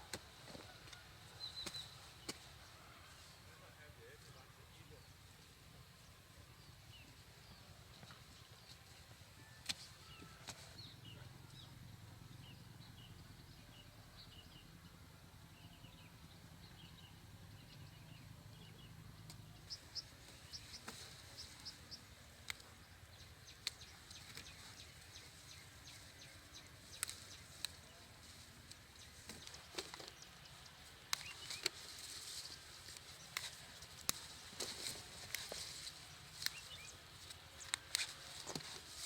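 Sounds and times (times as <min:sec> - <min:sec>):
small birds chirping: 0:00.1 - 0:39.0.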